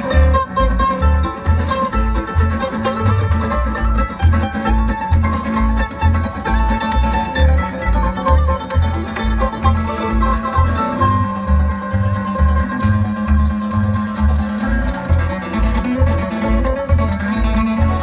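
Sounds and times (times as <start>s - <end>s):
bluegrass string band playing: 0.0s - 18.0s
upright bass plucking: 0.0s - 18.0s.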